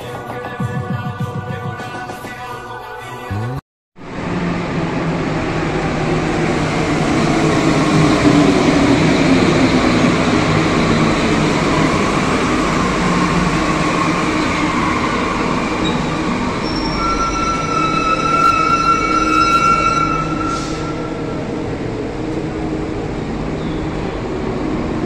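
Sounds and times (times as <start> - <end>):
train running noise: 4.0 - 25.0.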